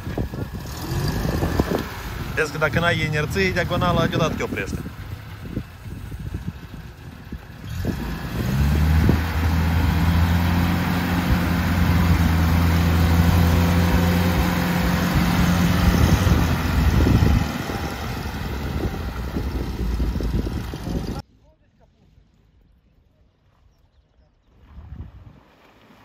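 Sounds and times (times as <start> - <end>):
engine revving in mud: 0.0 - 21.2.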